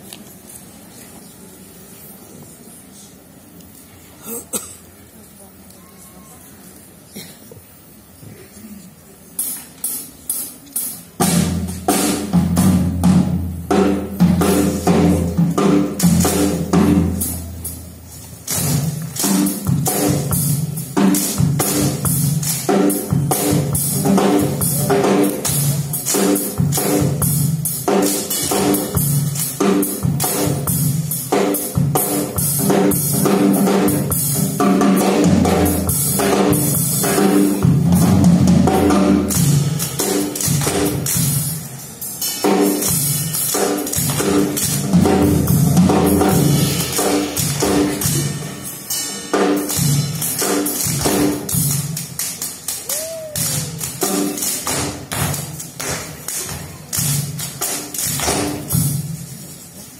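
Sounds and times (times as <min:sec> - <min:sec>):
drum kit playing: 0:09.3 - 0:59.9.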